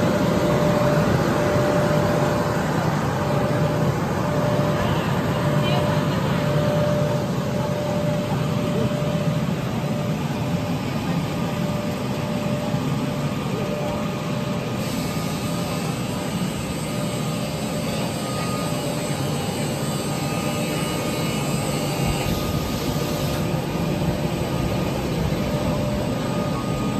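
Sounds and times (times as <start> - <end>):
faint steady whine: 0.0 - 26.9
machine mechanical drone: 0.0 - 26.9.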